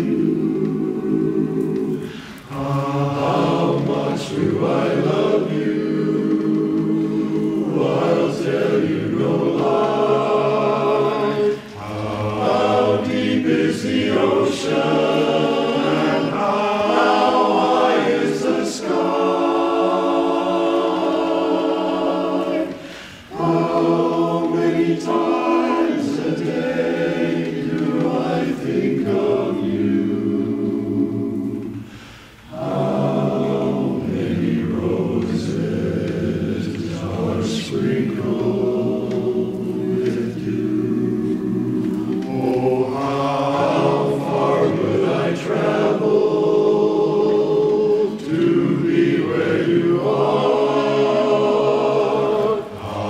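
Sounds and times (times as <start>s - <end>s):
men singing in close harmony: 0.0s - 53.0s.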